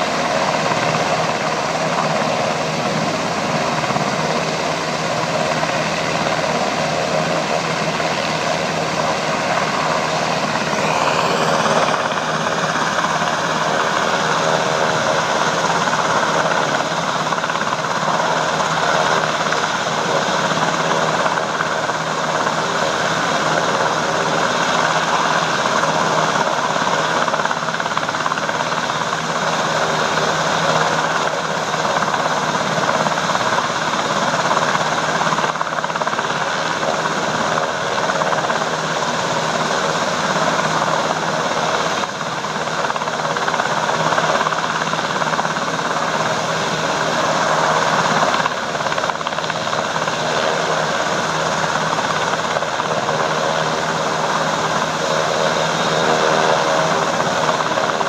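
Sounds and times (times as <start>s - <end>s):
helicopter turbines and rotor: 0.0s - 58.0s.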